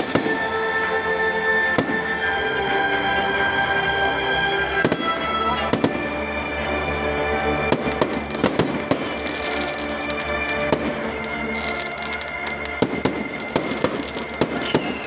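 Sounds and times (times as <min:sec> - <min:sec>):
firecrackers banging: 0:00.0 - 0:15.0
music: 0:00.0 - 0:15.0.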